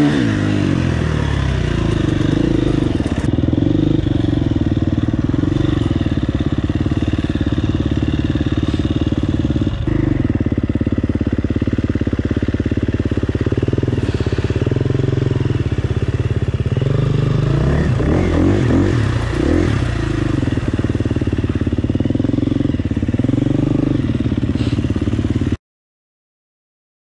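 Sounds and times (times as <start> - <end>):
dirt bike engine running: 0.0 - 25.6.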